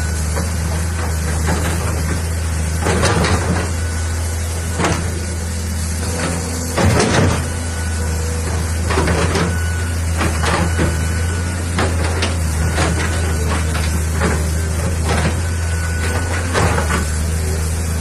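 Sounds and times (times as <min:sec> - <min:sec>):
excavator diesel engine running: 0:00.0 - 0:18.0
hissing clattering noises: 0:00.1 - 0:18.0.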